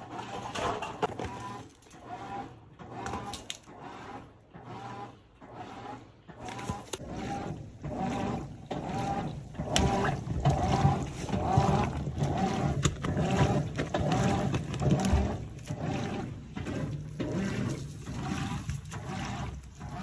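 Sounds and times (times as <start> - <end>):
washing machine sloshing water: 0.0 - 20.0.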